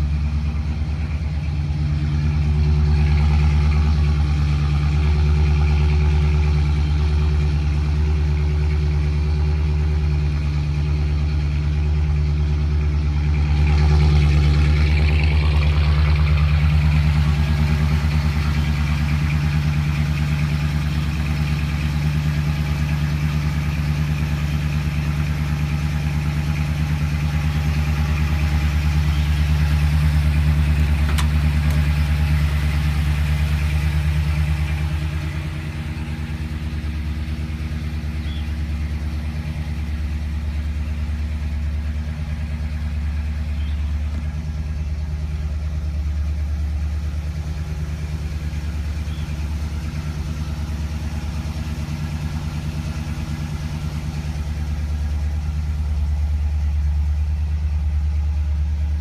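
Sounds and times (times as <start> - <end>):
pickup truck engine idling: 0.0 - 59.0.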